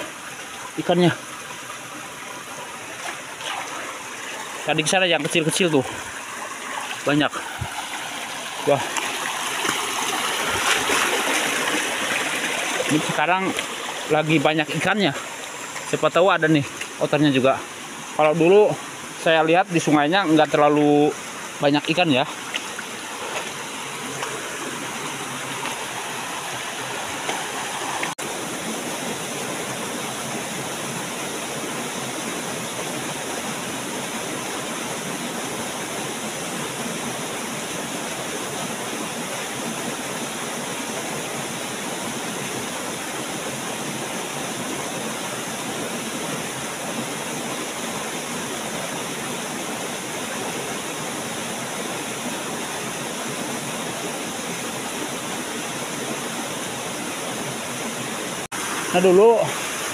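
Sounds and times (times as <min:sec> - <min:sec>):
stream pouring over waterfall: 0:00.0 - 0:59.9.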